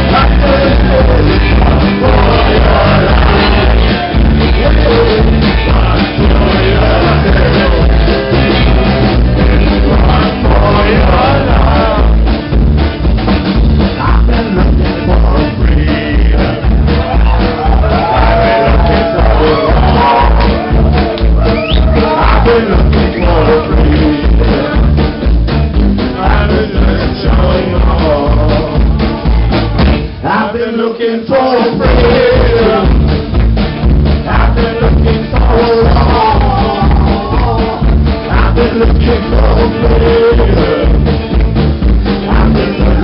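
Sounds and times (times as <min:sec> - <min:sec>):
person singing: 0:00.0 - 0:12.2, 0:13.9 - 0:25.2, 0:26.1 - 0:33.2, 0:34.2 - 0:41.2, 0:42.1 - 0:43.0
live band playing country song: 0:00.0 - 0:43.0.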